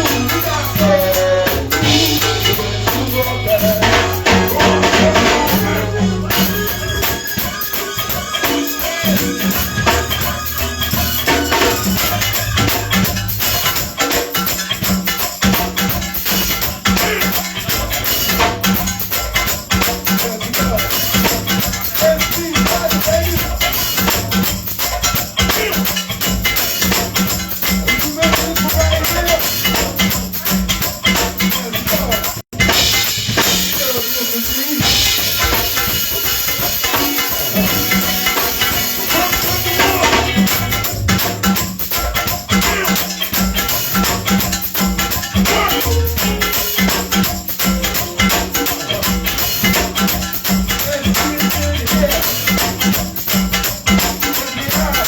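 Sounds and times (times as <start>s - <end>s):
live band music: 0.0s - 55.0s
shaken percussion: 0.0s - 55.0s.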